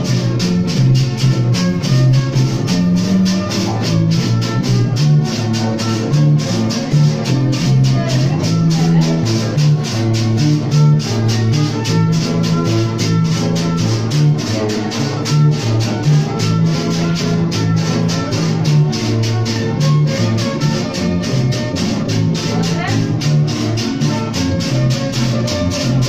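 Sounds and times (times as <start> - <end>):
guitars: 0.0 - 26.0
shaker beat: 0.0 - 26.0
stepping bass line: 0.0 - 26.0.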